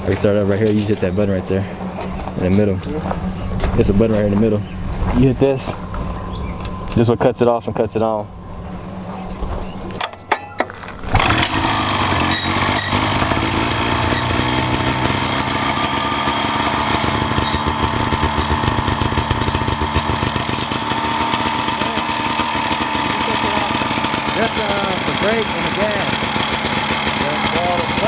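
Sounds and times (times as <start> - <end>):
go-kart engine running: 0.0 - 28.0.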